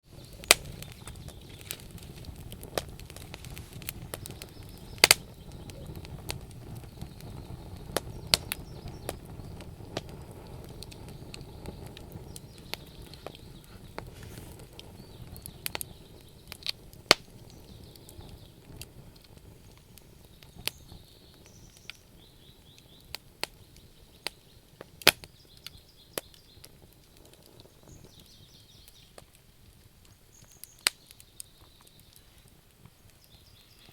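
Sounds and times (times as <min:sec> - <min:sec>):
campfire crackling and popping: 0:00.0 - 0:33.9
low rumble of flames: 0:00.0 - 0:33.9.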